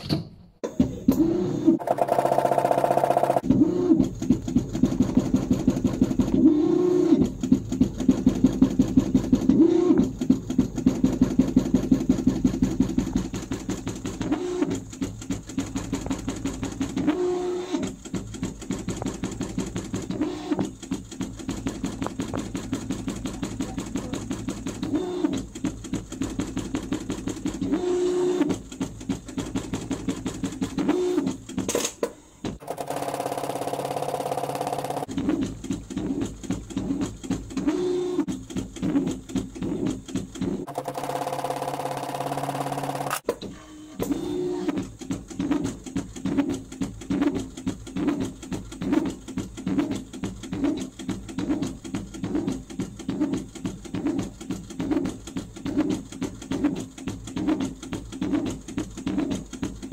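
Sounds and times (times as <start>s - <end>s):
sewing machine stitching: 0.0s - 59.9s.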